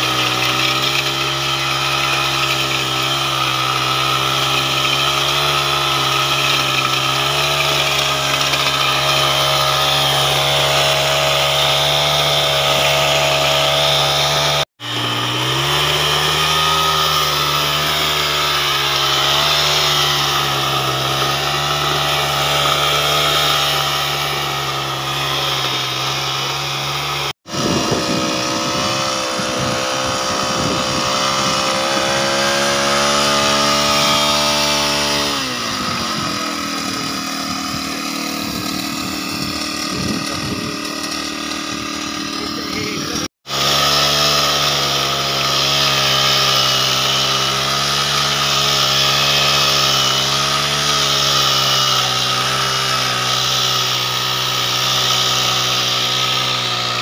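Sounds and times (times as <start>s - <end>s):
mini tiller engine running: 0.0s - 57.0s
rotary head churning soil: 0.0s - 57.0s.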